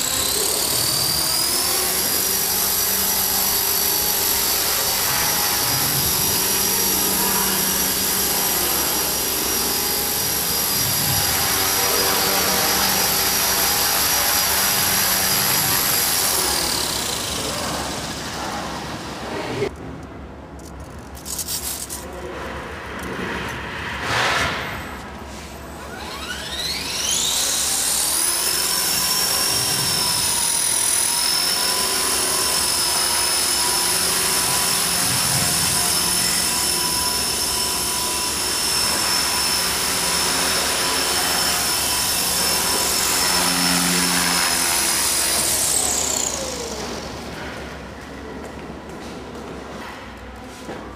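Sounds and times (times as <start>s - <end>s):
rc helicopter motor whine: 0.0s - 19.3s, 25.6s - 47.4s.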